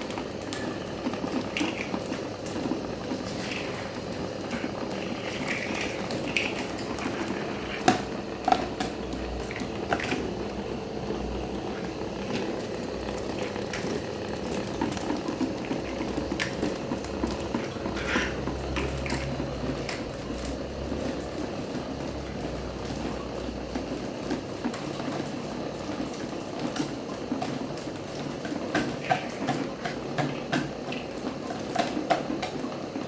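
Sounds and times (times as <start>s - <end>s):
electric fan whirring: 0.0s - 33.0s.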